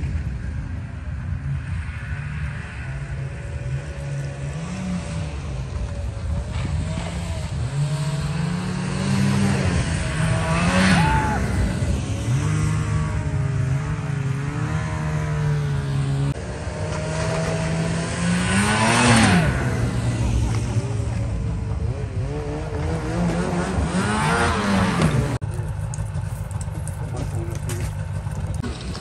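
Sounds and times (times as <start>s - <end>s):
snowmobile passing close by: 0.0s - 26.0s
snowmobile engines revving: 0.0s - 29.0s.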